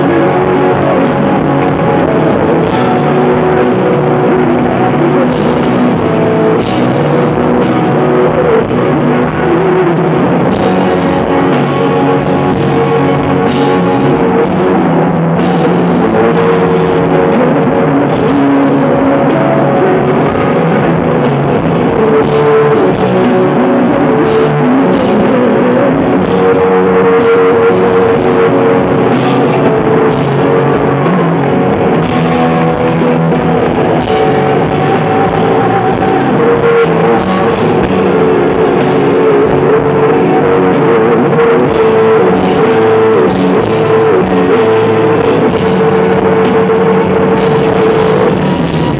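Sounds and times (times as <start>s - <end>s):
drum kit: 0.0s - 48.9s
electric guitar bending notes: 0.0s - 48.9s.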